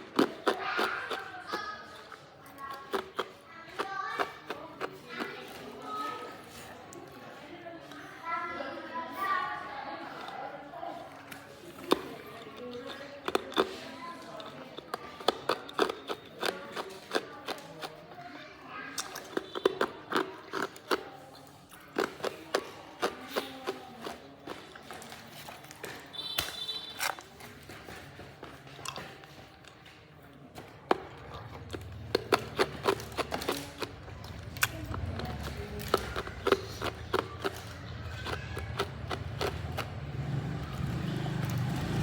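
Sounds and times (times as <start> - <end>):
ice being chewed: 0.0 - 8.2, 9.3 - 42.0.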